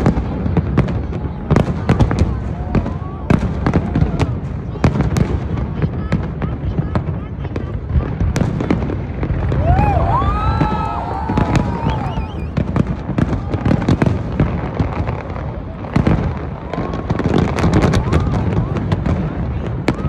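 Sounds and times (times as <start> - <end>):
firework bangs and crackling: 0.0 - 20.0.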